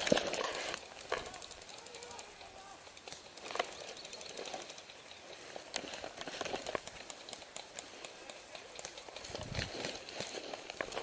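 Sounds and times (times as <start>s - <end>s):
irregular clicking and crackling: 0.0s - 11.0s
light rustle: 0.0s - 11.0s.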